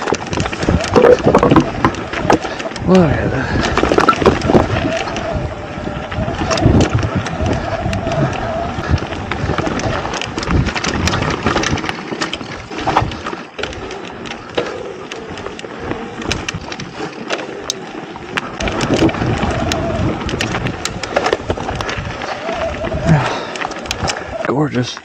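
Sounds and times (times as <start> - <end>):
wind on microphone: 0.0 - 24.5
bike clicking and rattling: 0.0 - 25.0
bike tyres rolling on dirt: 0.0 - 25.0.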